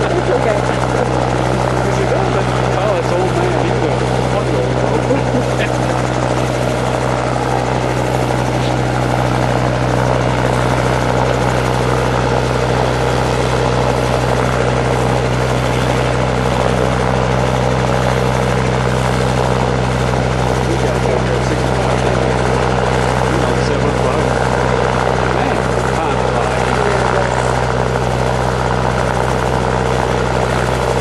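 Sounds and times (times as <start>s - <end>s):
helicopter engine and rotors: 0.0s - 31.0s.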